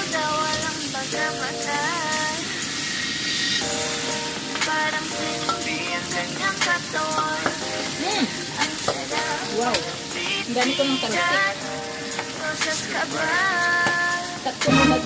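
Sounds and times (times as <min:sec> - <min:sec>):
background music: 0:00.0 - 0:15.0
fish sizzling in oil: 0:00.0 - 0:15.0.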